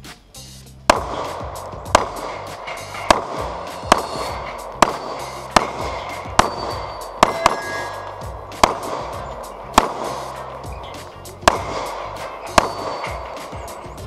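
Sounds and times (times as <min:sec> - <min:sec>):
funk music with bass line: 0:00.0 - 0:14.0
pistol shots: 0:00.9 - 0:14.0.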